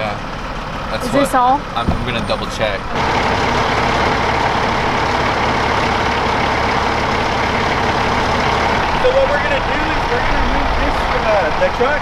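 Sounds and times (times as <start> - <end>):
constant hum: 0.0 - 12.0
truck engines idling: 0.0 - 12.0.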